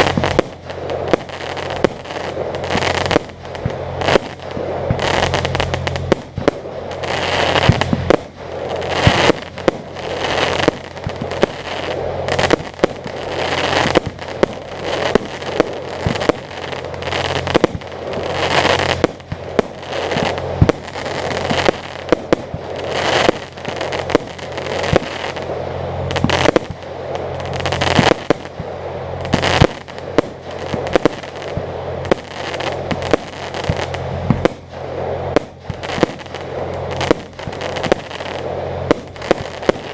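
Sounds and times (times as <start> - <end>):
fireworks bangs and booms: 0.0 - 39.9
fireworks crackling: 0.0 - 39.9
steady low hum: 0.0 - 39.9.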